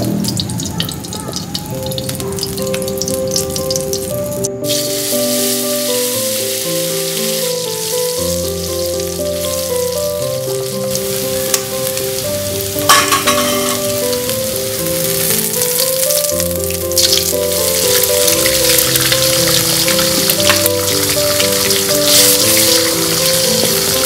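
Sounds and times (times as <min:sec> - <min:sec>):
gentle piano music: 0:00.0 - 0:24.0
sharp crackle: 0:00.0 - 0:24.0
paste sizzling in hot oil: 0:01.5 - 0:24.0.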